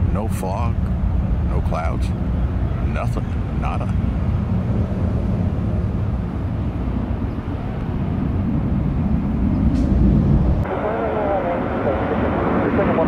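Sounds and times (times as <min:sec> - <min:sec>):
airliner jet rumble: 0:00.0 - 0:13.0.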